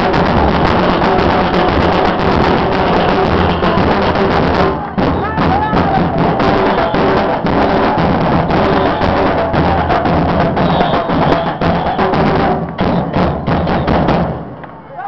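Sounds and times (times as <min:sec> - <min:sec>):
bass drums beating: 0:00.0 - 0:14.6.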